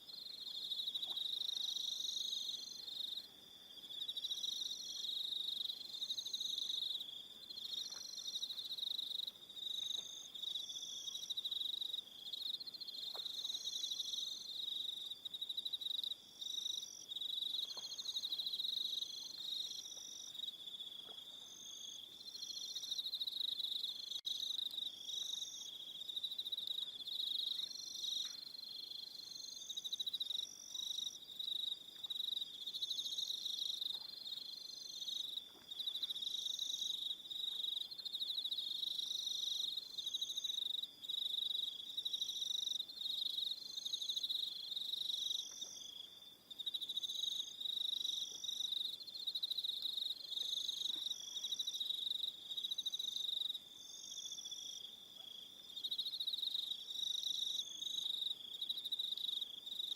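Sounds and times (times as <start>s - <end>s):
crickets trilling: 0.1s - 59.9s.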